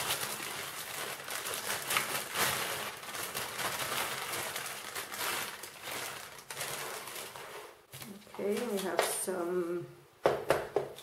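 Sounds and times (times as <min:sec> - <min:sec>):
plastic bag rustling and crinkling: 0:00.0 - 0:09.6.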